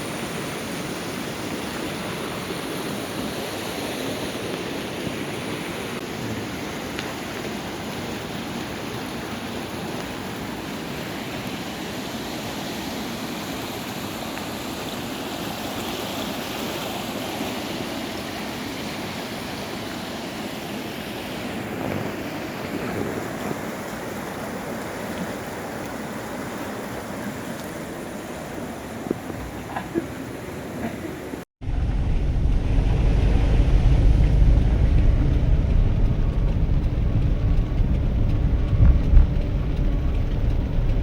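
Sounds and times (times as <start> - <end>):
floodwater rushing: 0.0 - 41.0.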